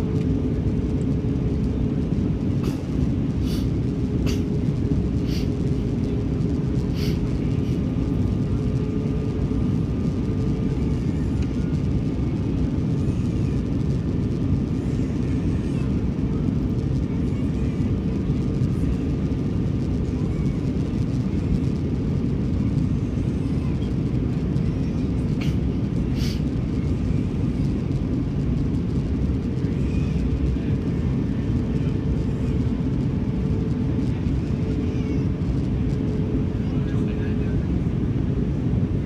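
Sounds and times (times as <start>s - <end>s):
jet engines and airflow rumble: 0.0s - 39.0s.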